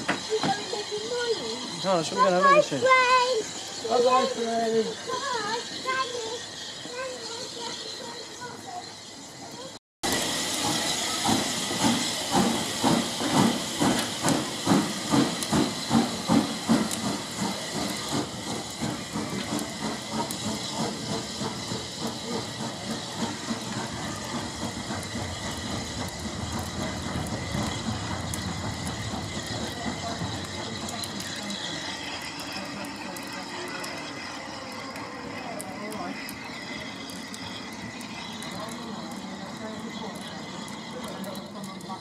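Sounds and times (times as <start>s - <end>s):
steam hissing: 0.0s - 42.0s
steam locomotive chuffing: 0.0s - 42.0s.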